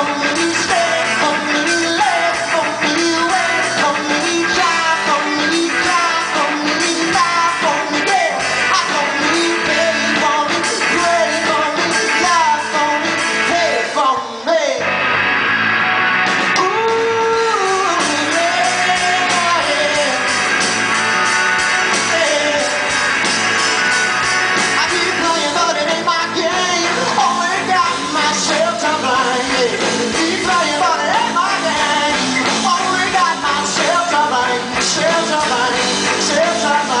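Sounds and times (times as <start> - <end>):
drum kit: 0.0 - 14.2, 14.8 - 37.0
man singing: 0.0 - 14.9, 16.5 - 20.5, 21.6 - 23.1, 24.7 - 37.0
electric bass: 0.0 - 37.0
electric guitar: 0.0 - 37.0.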